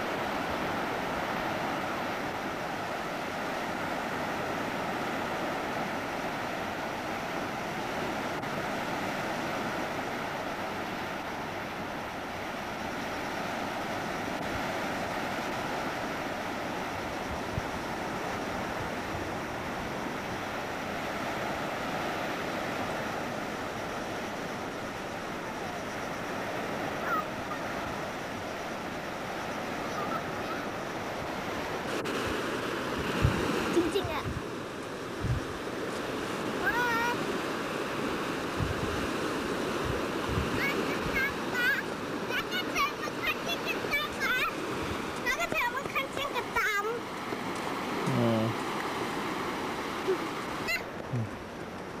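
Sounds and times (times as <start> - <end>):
surf breaking on a beach: 0.0 - 52.0.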